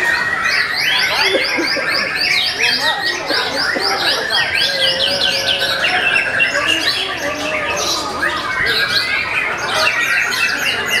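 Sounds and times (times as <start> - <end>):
songbirds whistling and chirping: 0.0 - 11.0.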